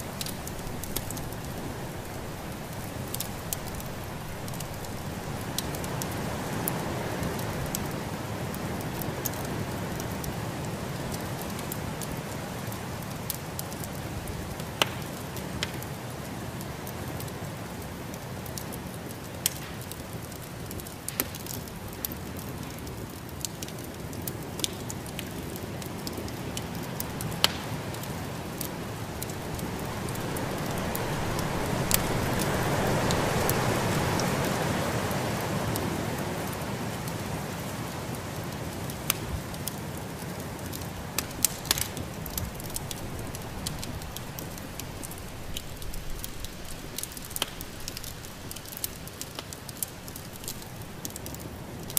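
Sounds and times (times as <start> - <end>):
fireplace fire crackling: 0.0 - 51.9.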